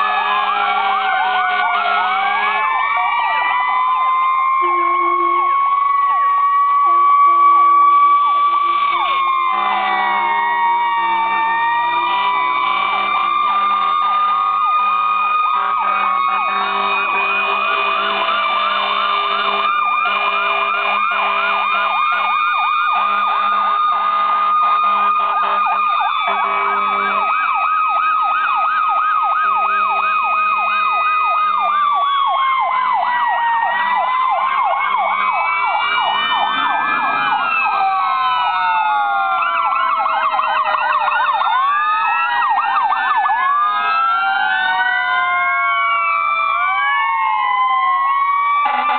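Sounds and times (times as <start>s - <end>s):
emergency vehicle sirens wailing: 0.0s - 48.9s.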